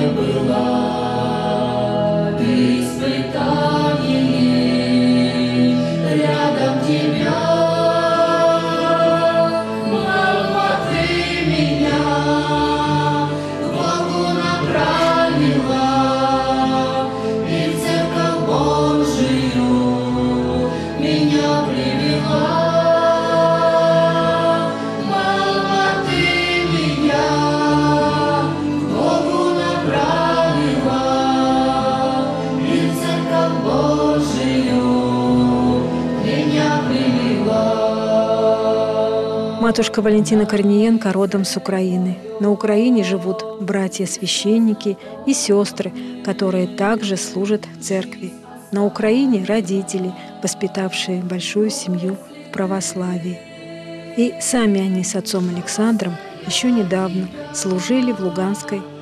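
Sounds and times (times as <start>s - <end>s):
low musical accompaniment: 0.0s - 59.0s
voices singing spiritual song: 0.0s - 59.0s.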